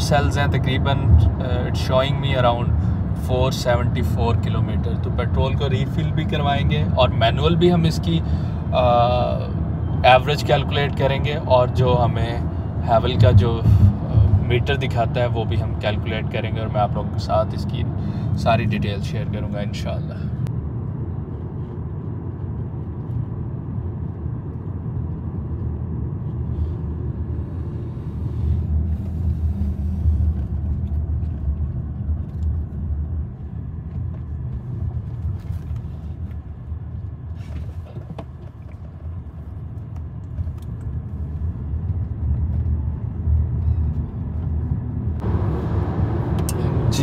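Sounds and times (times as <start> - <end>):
road rumble inside car: 0.0 - 47.0.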